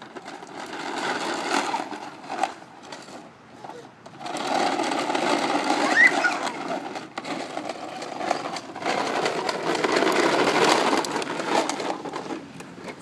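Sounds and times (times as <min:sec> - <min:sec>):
small motor rattling: 0:00.0 - 0:13.0.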